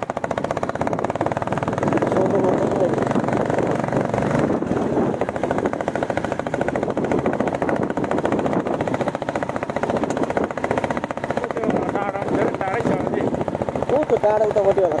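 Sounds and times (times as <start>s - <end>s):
motorcycle engine pulsing exhaust: 0.0s - 15.0s.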